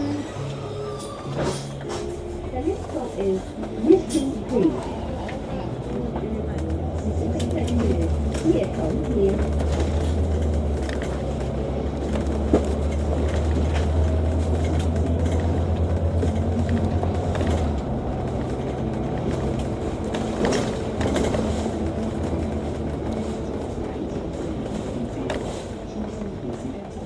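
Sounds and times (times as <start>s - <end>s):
bus diesel engine drone: 0.0s - 27.0s
bodywork rattles and clicks: 2.6s - 27.0s.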